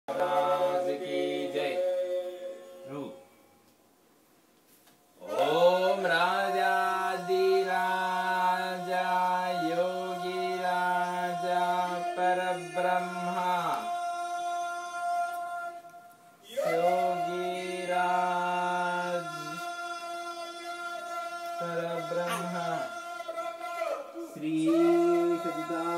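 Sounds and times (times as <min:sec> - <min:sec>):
person chanting: 0:00.1 - 0:03.4, 0:05.2 - 0:25.9.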